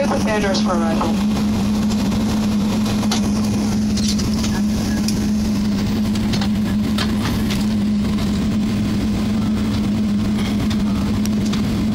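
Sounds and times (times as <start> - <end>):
aircraft cabin noise: 0.0 - 11.9
constant low hum: 0.0 - 11.9.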